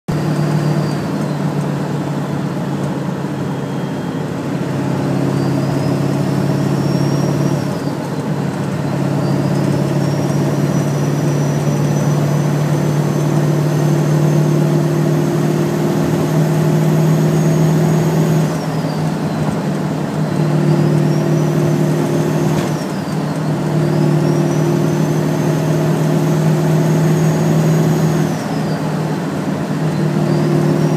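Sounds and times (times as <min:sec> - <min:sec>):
diesel engine droning: 0:00.1 - 0:30.9
turbocharger whistling: 0:00.1 - 0:30.9.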